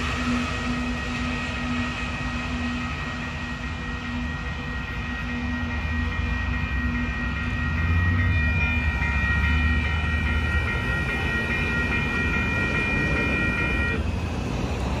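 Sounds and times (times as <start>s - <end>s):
crossing warning bell ringing: 0.0s - 15.0s
freight train rumbling past: 0.0s - 15.0s.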